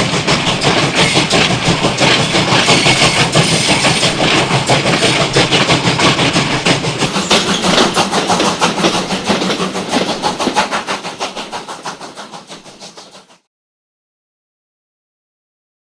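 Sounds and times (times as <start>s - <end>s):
train clickety-clack on rails: 0.0s - 13.5s.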